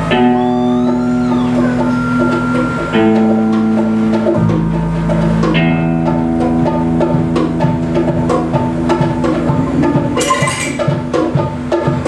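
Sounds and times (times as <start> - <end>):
electric guitar sustained chords: 0.0 - 11.5
light percussion: 0.0 - 12.0.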